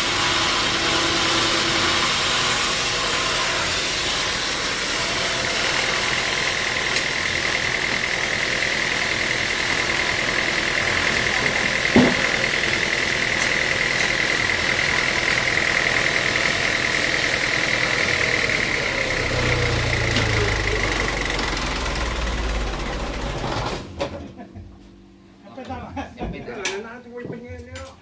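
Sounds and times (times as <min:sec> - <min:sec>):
sawmill machinery whining: 0:00.0 - 0:24.5.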